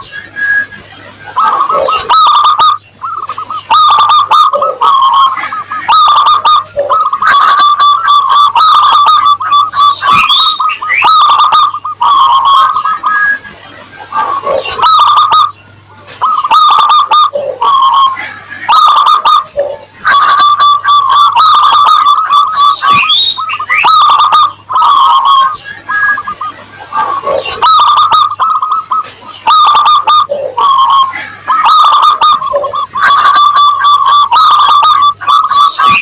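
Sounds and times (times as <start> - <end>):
dove cooing: 0.0 - 36.0.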